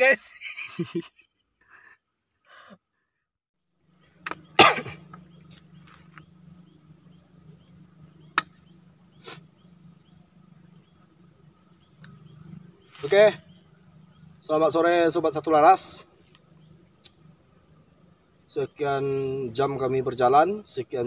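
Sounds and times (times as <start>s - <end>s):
insects shrilling: 3.8s - 21.0s.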